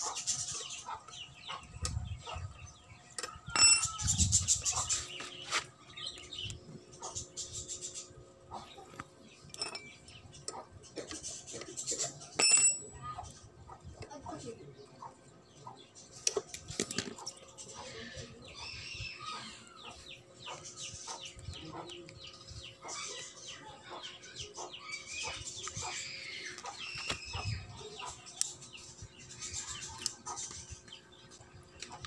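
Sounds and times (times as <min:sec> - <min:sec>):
chickens clucking: 0:00.0 - 0:05.8, 0:06.4 - 0:09.5, 0:10.2 - 0:12.4, 0:13.1 - 0:32.0.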